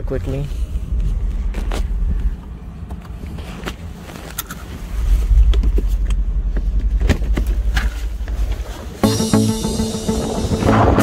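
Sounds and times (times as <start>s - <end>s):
wind and road noise: 0.0s - 9.0s.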